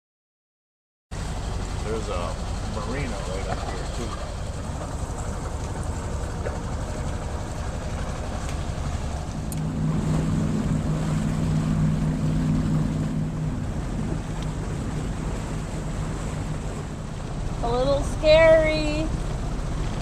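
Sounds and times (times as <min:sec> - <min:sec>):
boat engine rumbling: 0:01.1 - 0:20.0
low hum: 0:01.2 - 0:20.0.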